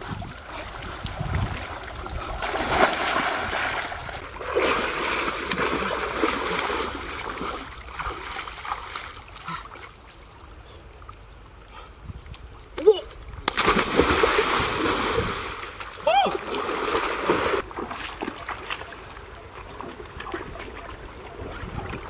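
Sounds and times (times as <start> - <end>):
water splashing from wading: 0.0 - 10.5, 13.4 - 22.0.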